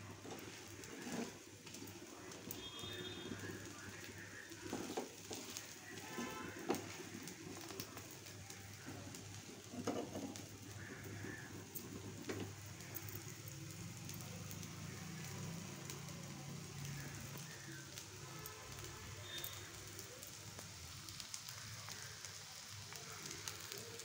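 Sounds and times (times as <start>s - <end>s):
batter sizzling on hot griddle: 0.0s - 24.0s.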